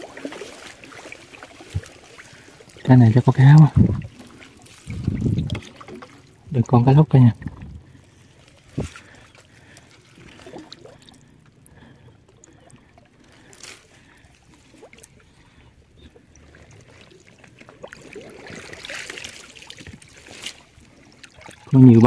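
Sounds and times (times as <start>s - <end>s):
water trickling and dripping: 0.0s - 22.0s.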